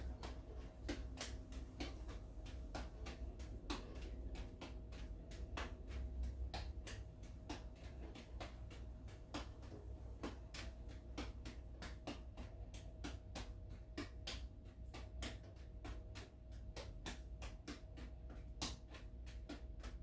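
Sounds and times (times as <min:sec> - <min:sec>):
faint steady hum: 0:00.0 - 0:20.0
juggling balls landing in hands: 0:00.0 - 0:20.0.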